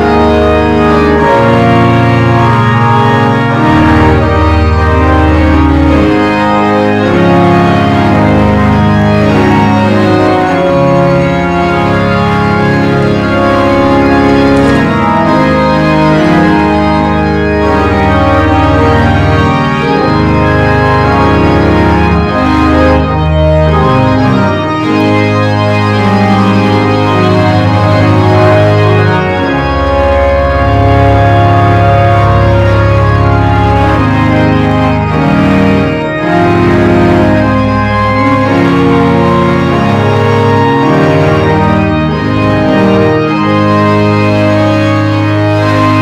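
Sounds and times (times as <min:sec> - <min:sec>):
slow organ music: 0:00.0 - 0:46.0.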